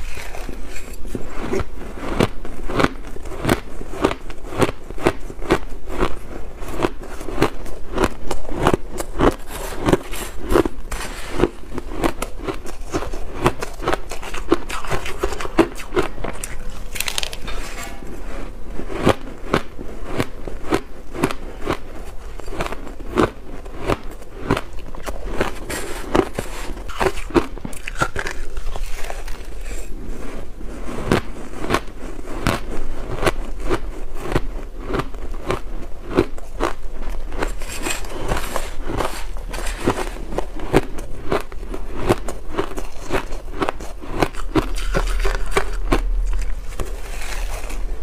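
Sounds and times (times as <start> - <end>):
person chewing crunchy ice: 0.0 - 48.0.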